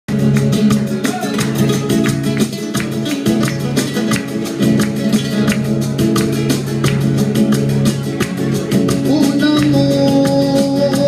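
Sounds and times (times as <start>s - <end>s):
acoustic guitar strummed fast: 0.1s - 11.0s.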